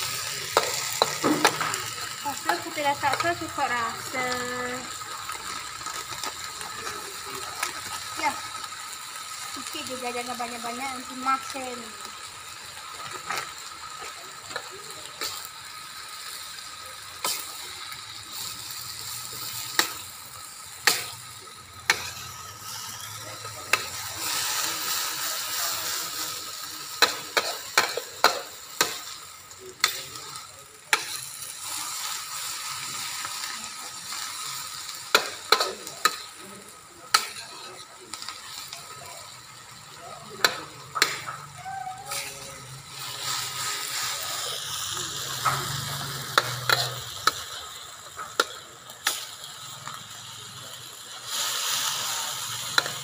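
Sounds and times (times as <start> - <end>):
vegetables sizzling in hot oil: 0.0 - 53.0.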